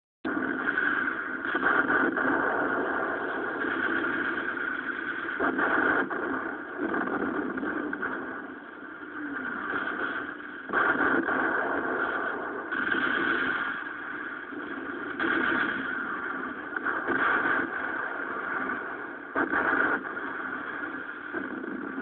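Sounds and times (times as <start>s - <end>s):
sharp cracks: 0.3s - 22.0s.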